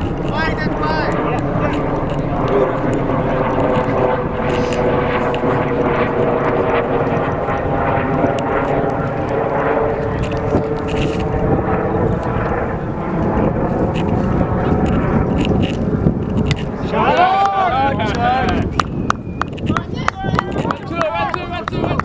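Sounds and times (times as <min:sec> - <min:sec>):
steady engine drone: 0:00.0 - 0:22.0.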